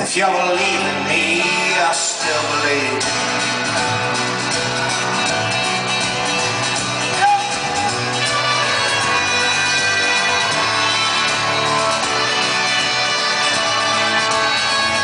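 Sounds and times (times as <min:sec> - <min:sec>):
folk-rock band playing live: 0:00.0 - 0:15.0
strummed strings: 0:00.2 - 0:15.0.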